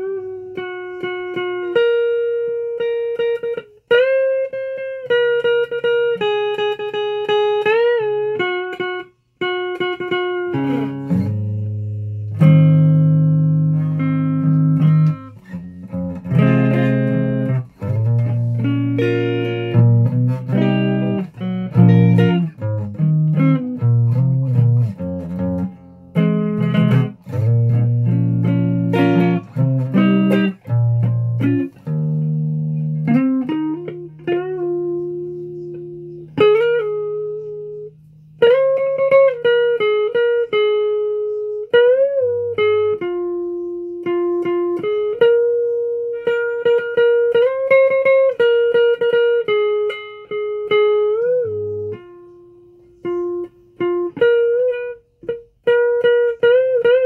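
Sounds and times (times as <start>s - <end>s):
guitar being plucked: 0.0s - 57.0s.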